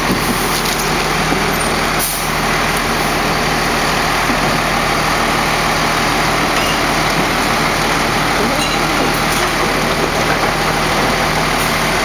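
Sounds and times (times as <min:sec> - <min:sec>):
garbage truck diesel engine idling: 0:00.0 - 0:12.0.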